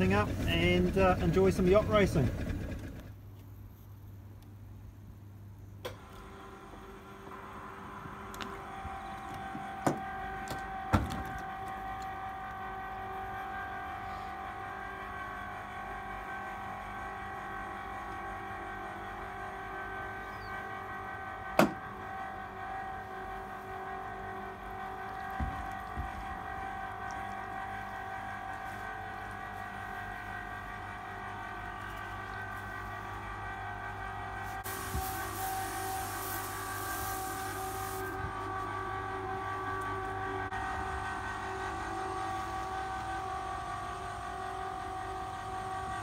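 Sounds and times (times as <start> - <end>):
electric winch motor whine: 0.0 - 3.2, 5.8 - 46.0.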